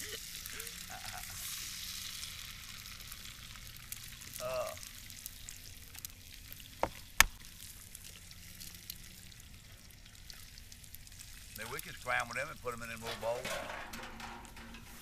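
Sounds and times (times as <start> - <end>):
eggs sizzling in a skillet: 0.0 - 15.0.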